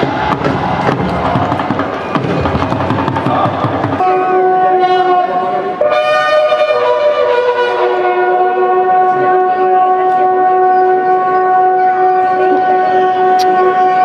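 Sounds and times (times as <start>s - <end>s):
bugles sounding long notes: 0.0s - 14.0s.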